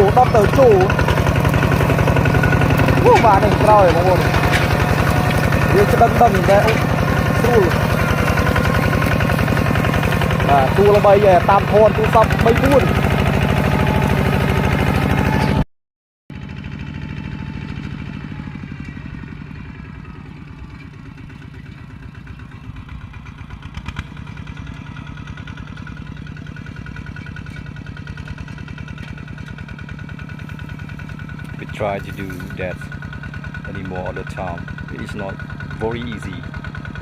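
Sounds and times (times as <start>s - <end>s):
tractor engine pulsing: 0.0s - 15.6s, 16.6s - 37.0s.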